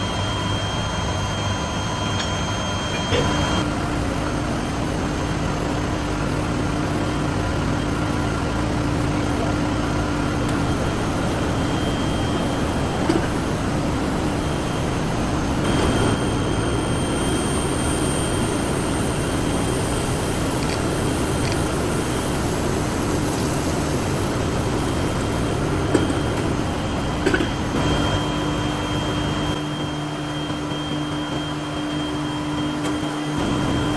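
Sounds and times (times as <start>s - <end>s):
faint steady tones: 0.0s - 33.9s
industrial machinery noise: 0.0s - 33.9s.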